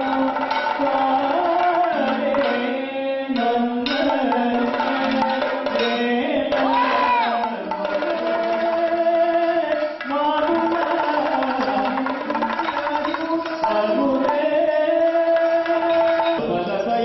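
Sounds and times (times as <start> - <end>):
drum and percussion: 0.0 - 17.0
person singing ornamented melody: 0.0 - 17.0.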